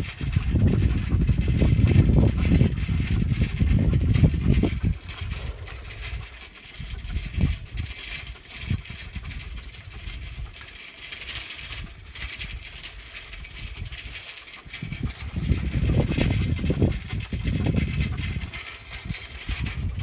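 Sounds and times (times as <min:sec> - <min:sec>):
bicycle rattling on dirt track: 0:00.0 - 0:20.0.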